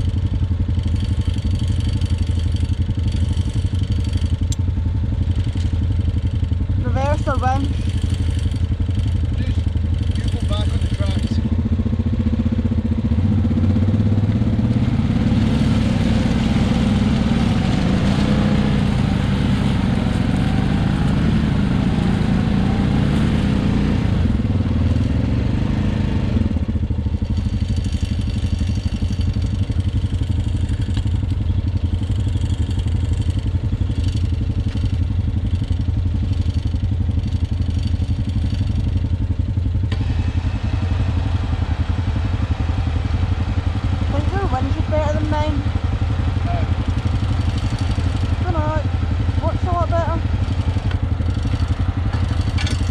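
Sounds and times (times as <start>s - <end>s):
atv engines revving and idling: 0.0s - 52.9s.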